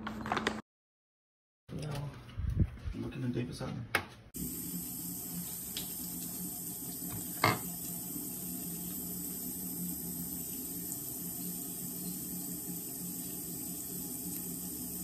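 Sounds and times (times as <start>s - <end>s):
bathroom background hum and hiss: 3.0s - 15.0s.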